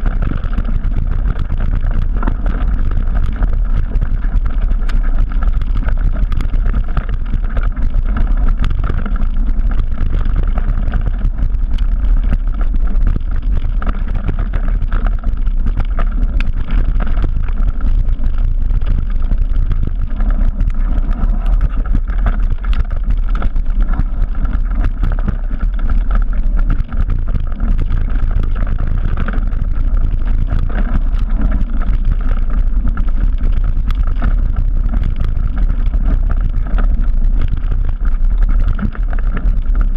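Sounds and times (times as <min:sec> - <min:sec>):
bike clicks and rattles: 0:00.0 - 0:39.9
tyres on dirt trail: 0:00.0 - 0:39.9
wind on microphone: 0:00.0 - 0:39.9.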